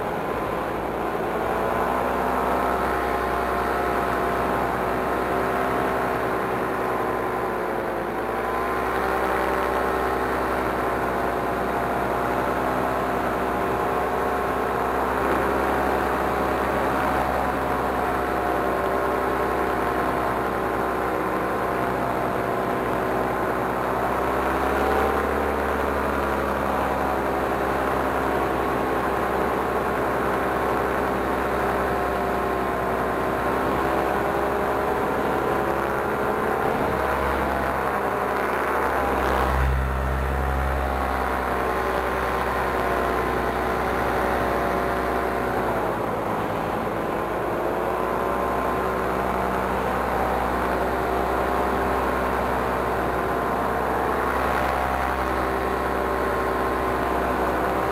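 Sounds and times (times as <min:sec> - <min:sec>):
paramotor engine and propeller: 0:00.0 - 0:57.9.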